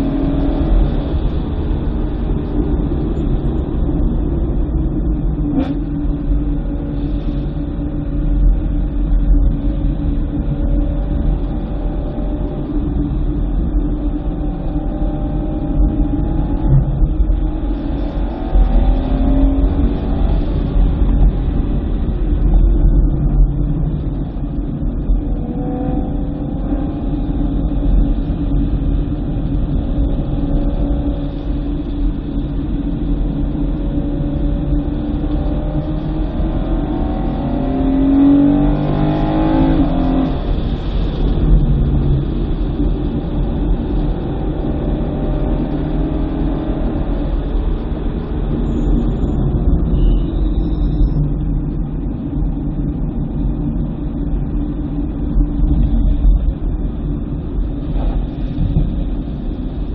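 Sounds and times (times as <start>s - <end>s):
car engine revving: 0.0s - 51.6s.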